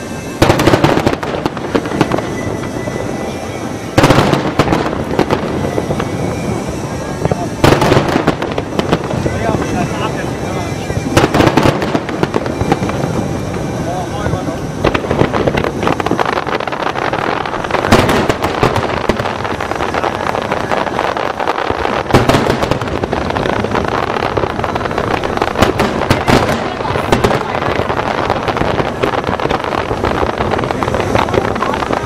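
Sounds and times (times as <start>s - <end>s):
fireworks crackling and popping: 0.0s - 32.0s
heavy firework bangs: 0.0s - 32.0s.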